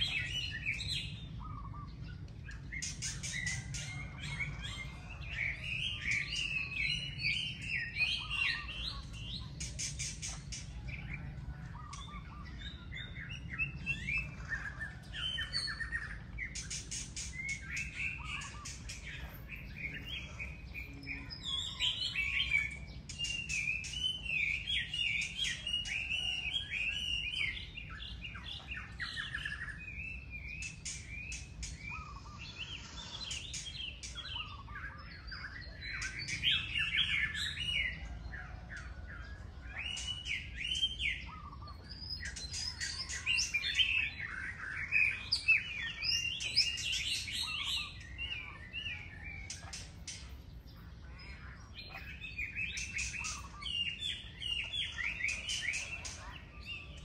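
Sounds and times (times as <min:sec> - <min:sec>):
birds chirping in a chorus: 0:00.0 - 0:57.0.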